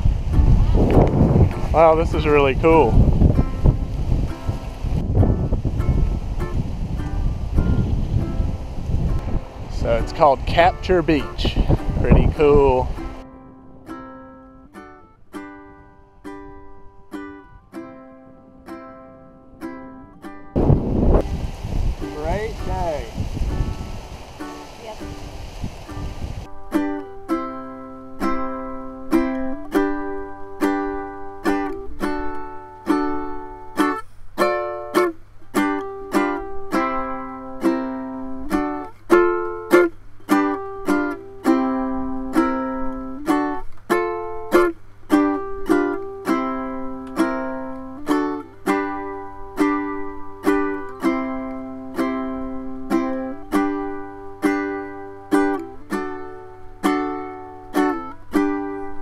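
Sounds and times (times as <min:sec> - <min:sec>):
strummed ukulele tune: 0:00.0 - 0:59.0.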